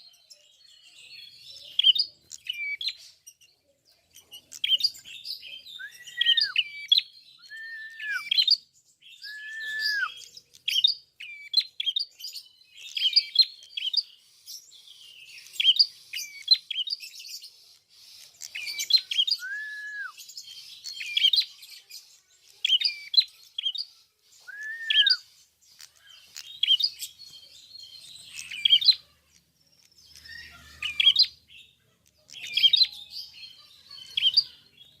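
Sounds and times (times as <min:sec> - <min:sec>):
songbird chattering song: 0:00.0 - 0:35.0.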